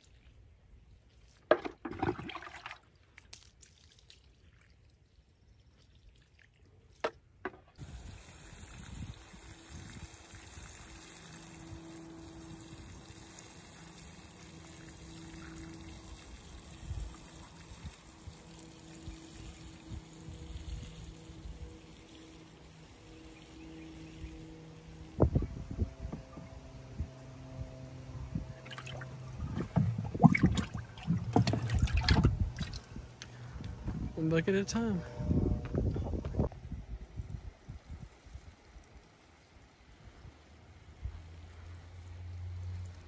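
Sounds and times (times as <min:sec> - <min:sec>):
water trickling onto soil: 0:00.0 - 0:07.1, 0:07.8 - 0:25.2, 0:28.6 - 0:33.2, 0:37.2 - 0:43.0.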